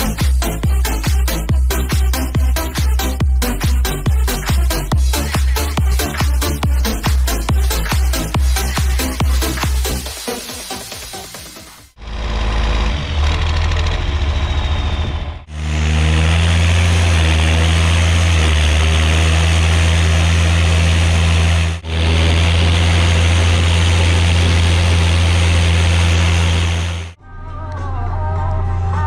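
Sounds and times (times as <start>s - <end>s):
diesel tractor engine running: 0.0s - 10.3s, 11.9s - 29.0s.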